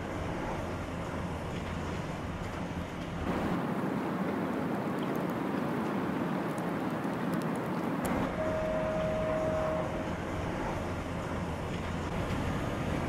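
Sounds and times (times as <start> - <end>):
boat engine and water wash: 0.0 - 13.0.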